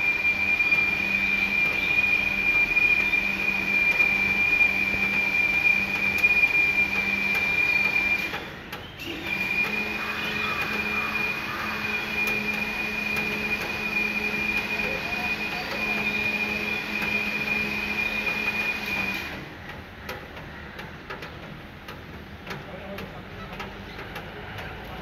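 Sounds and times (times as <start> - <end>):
machine whine and hum: 0.0 - 22.6.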